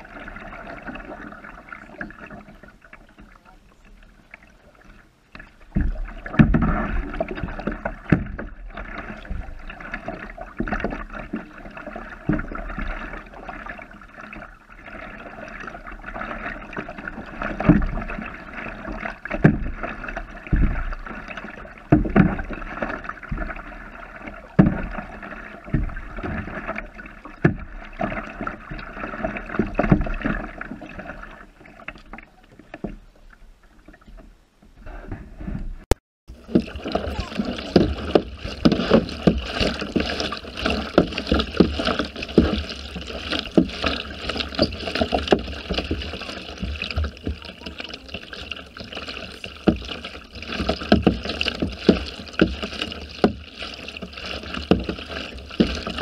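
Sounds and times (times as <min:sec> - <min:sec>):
water lapping along kayak hull: 0:00.0 - 0:56.0
paddle knocking: 0:05.4 - 0:33.2, 0:34.2 - 0:56.0.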